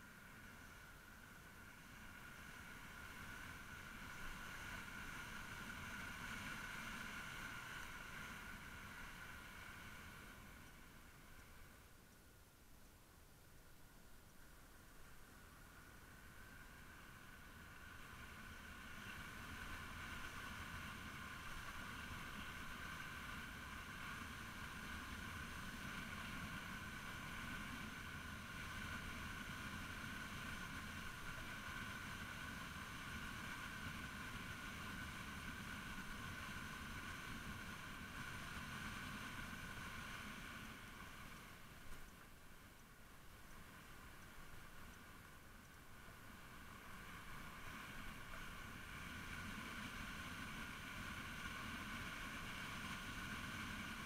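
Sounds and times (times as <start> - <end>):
motorbike riding noise: 0.0 - 11.8, 16.0 - 42.7, 43.4 - 54.0
wind and road rumble: 0.0 - 54.0.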